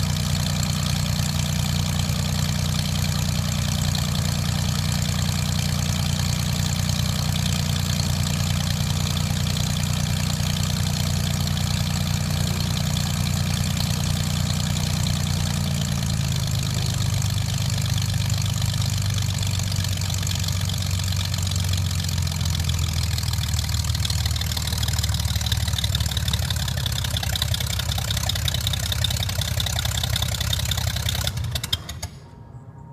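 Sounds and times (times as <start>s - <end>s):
airplane engine running: 0.0s - 17.2s, 22.4s - 32.9s.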